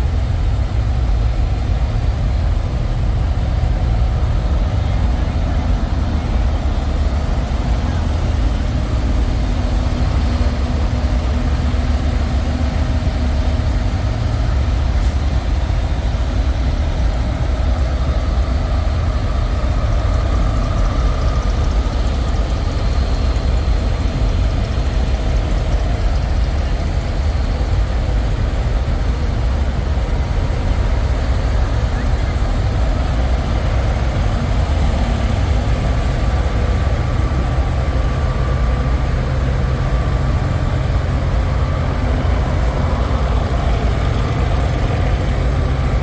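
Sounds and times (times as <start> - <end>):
truck diesel engine idling: 0.0 - 46.0.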